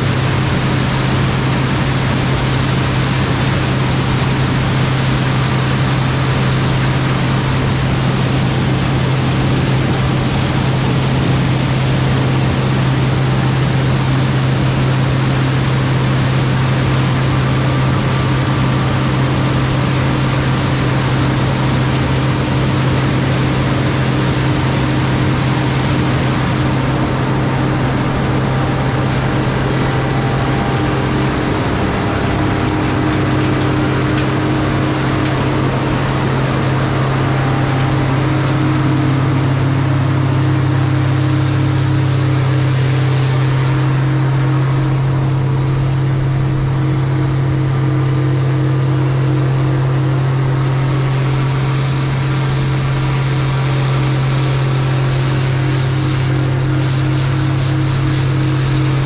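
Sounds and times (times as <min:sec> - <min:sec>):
diesel engine humming: 0:00.0 - 0:59.0
harvesting machine noise: 0:00.0 - 0:59.0.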